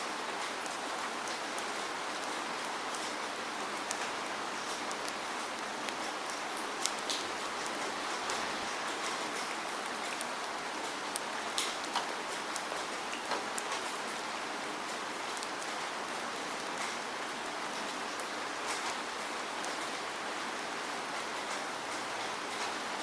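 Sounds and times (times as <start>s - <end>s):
raindrops ticking on a surface: 0.0s - 23.0s
steady rain hiss: 0.0s - 23.0s.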